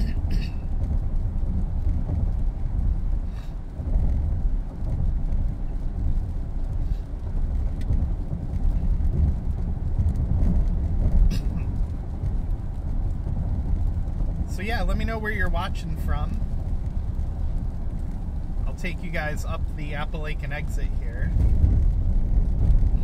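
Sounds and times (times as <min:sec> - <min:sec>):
car engine cruising: 0:00.0 - 0:23.0
tyres rumbling on wet road: 0:00.0 - 0:23.0.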